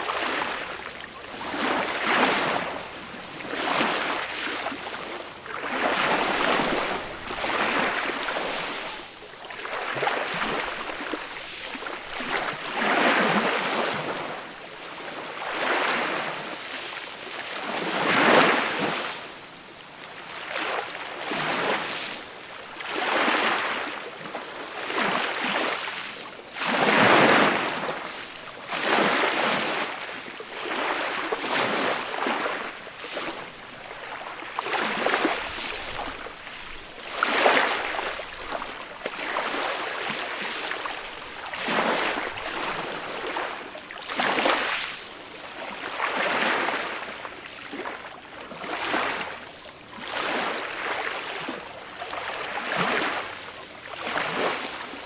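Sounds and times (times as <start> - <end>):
gentle waves washing onto beach: 0.0 - 55.0.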